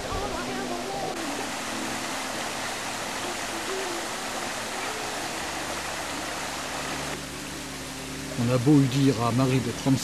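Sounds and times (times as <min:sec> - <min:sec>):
stream rushing over stones: 0:00.0 - 0:10.0.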